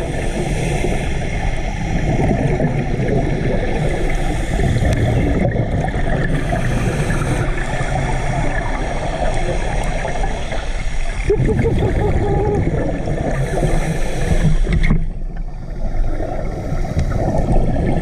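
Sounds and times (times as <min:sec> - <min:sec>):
gurgling bubbly crackle: 0:00.0 - 0:18.0
muffled underwater rumble: 0:00.0 - 0:18.0.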